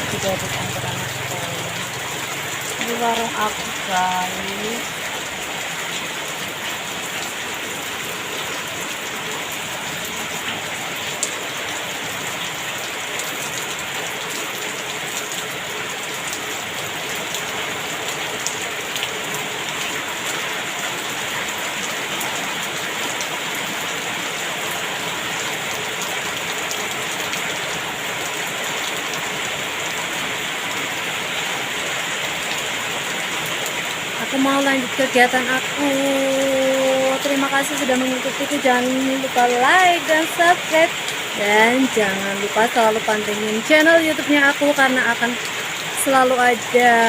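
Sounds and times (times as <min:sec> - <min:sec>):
heavy rain pattering: 0:00.0 - 0:47.0.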